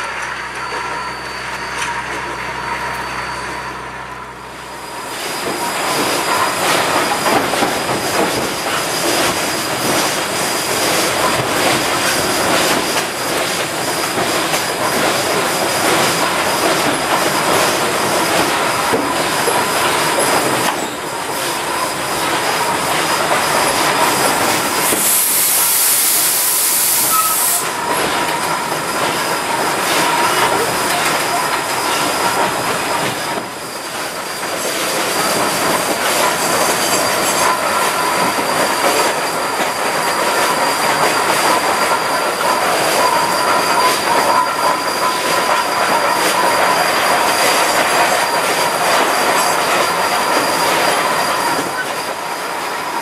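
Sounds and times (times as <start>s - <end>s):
steam locomotive engine: 0.0s - 53.0s
high steam hiss: 4.6s - 53.0s
wheels clattering on rail: 5.0s - 26.3s, 27.0s - 53.0s.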